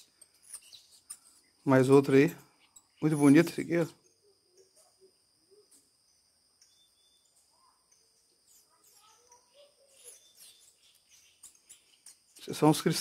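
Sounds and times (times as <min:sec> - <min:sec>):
faint bird chirps: 0:00.0 - 0:13.0
high-pitched insect trilling: 0:00.0 - 0:13.0.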